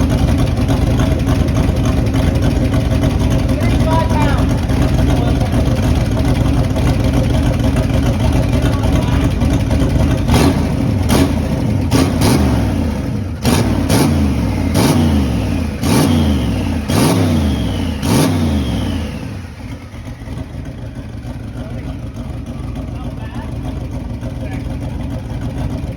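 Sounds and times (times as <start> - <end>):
engine revving: 0.0 - 22.2.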